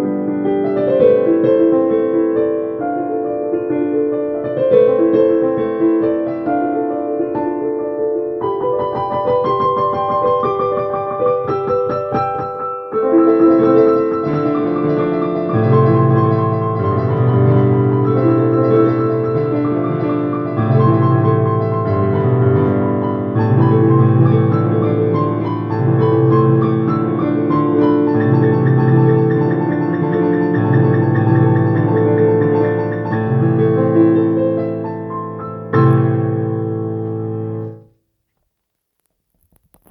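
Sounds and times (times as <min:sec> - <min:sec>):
piano melody over held chords: 0:00.0 - 0:37.9
low piano bass part: 0:00.7 - 0:37.9.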